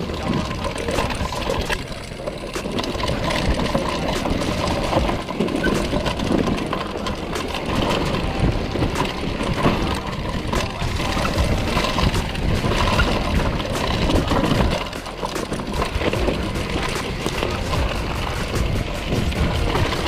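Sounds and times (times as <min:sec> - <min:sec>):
bike knocks and rattles: 0:00.0 - 0:20.0
rumble of wind and tyres: 0:00.0 - 0:20.0.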